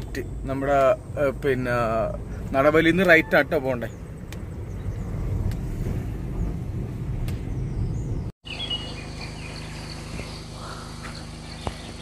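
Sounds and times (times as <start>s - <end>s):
birds chirping: 0.0s - 12.0s
car cabin road rumble: 0.0s - 12.0s.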